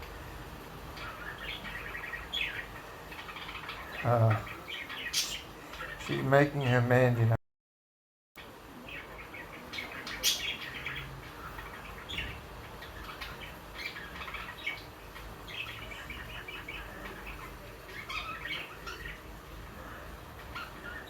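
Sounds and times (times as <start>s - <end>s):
budgerigars chirping and warbling: 0.5s - 7.3s, 8.4s - 21.0s.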